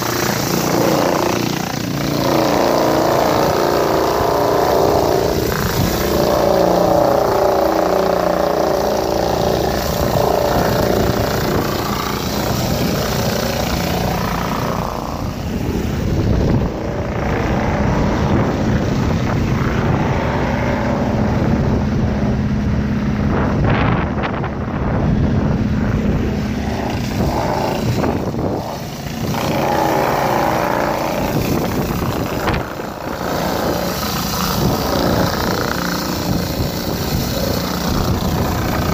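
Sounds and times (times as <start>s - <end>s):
pressure washer mechanical drone: 0.0s - 38.9s
steady low hum: 0.0s - 38.9s.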